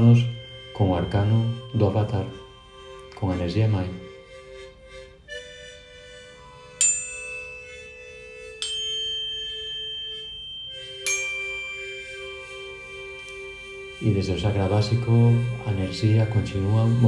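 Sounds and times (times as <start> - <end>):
soft pulsing held tone: 0.0 - 4.7, 6.5 - 17.0
struck bell-like notes: 0.0 - 4.8, 6.3 - 17.0.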